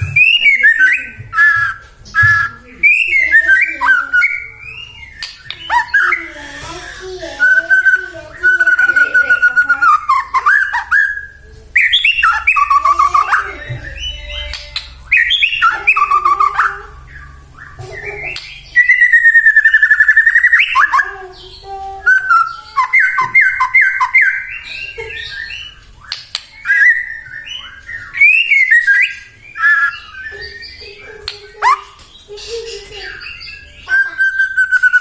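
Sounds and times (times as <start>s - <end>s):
bird singing whistled phrases: 0.0s - 6.4s, 7.4s - 35.0s.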